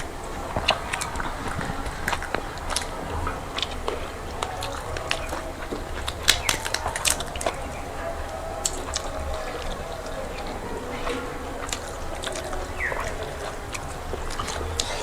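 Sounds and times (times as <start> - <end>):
sharp wet clicks: 0.0 - 15.0
chewing and lip smacking: 0.6 - 15.0.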